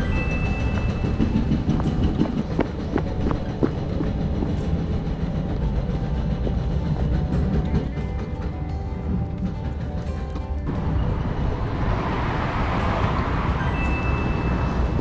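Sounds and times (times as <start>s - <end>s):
low rumble of machine noise: 0.0s - 15.0s.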